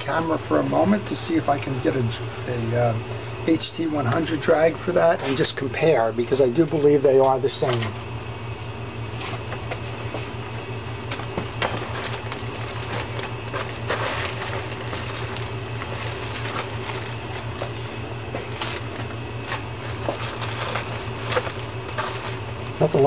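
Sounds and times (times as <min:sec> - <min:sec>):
furnace humming: 0:00.0 - 0:23.0.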